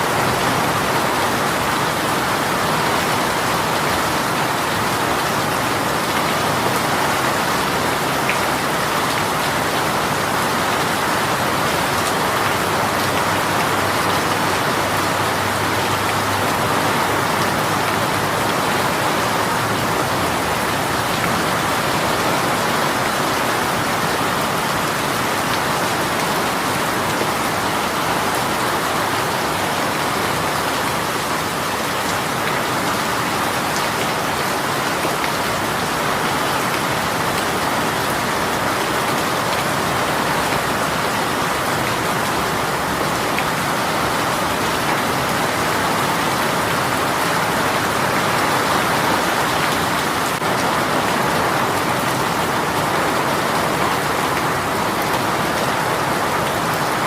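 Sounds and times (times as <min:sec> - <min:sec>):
heavy rain shower: 0:00.0 - 0:57.0.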